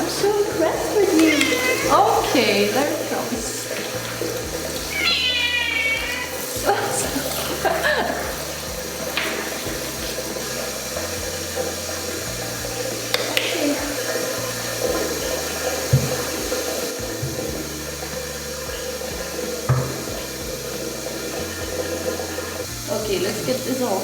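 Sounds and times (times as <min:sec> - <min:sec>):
tap water pouring: 0:00.0 - 0:24.0.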